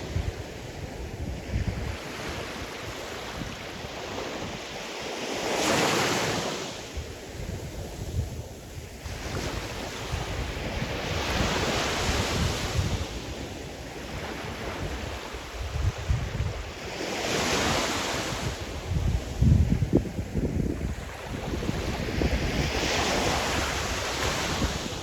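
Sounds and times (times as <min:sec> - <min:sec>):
waves breaking on shore: 0:00.0 - 0:25.0
wind gusts on microphone: 0:00.0 - 0:25.0.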